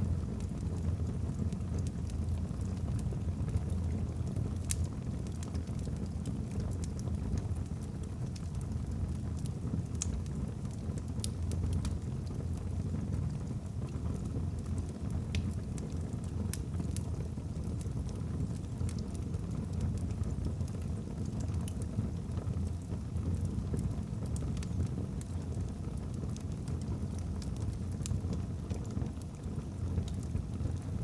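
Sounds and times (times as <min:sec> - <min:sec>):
burning logs crackling: 0:00.0 - 0:31.0.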